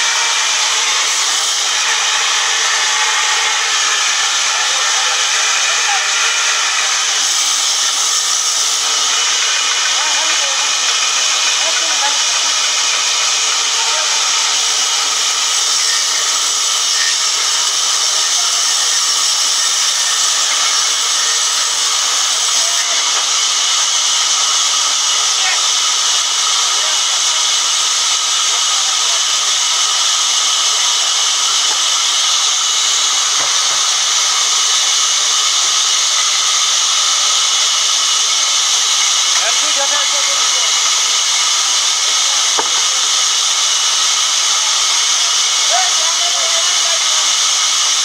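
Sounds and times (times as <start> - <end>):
band saw cutting log: 0.0 - 48.0.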